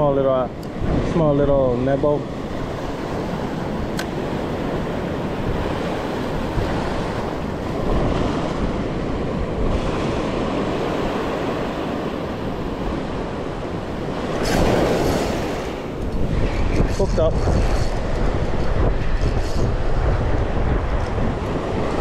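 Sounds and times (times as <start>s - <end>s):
ocean surf washing over rocks: 0.0s - 22.0s
wind buffeting microphone: 0.0s - 22.0s.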